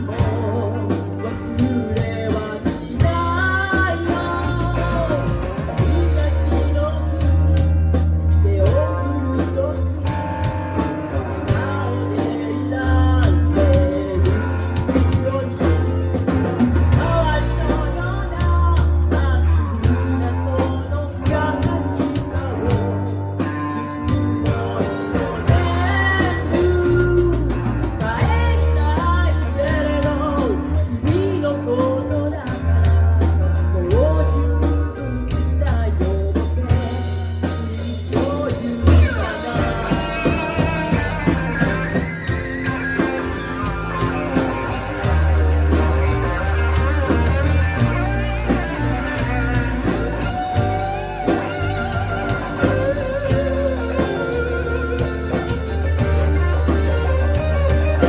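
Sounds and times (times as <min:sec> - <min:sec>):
band playing instrumental: 0:00.0 - 0:58.0
guitar melody: 0:00.0 - 0:58.0.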